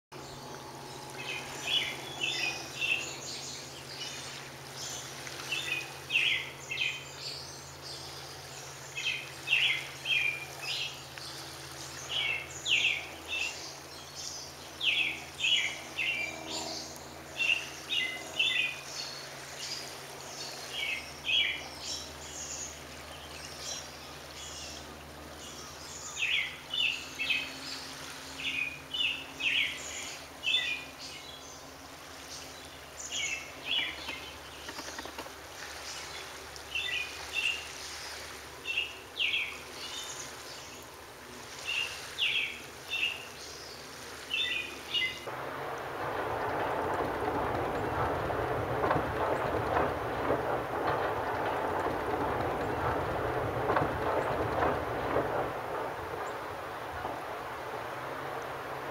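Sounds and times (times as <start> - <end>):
steady low hum: 0.1 - 58.9.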